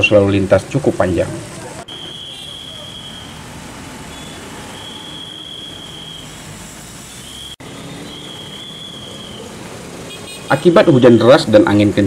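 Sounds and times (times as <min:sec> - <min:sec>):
traffic hissing on wet road: 0:00.0 - 0:12.0.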